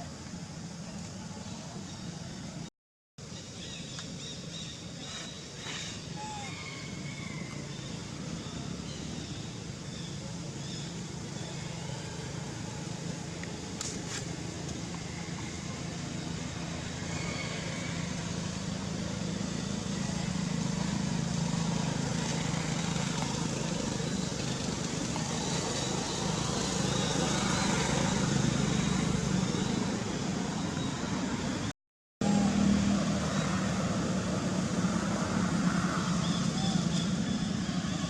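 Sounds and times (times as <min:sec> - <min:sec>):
low hum of distant traffic: 0:00.0 - 0:38.0.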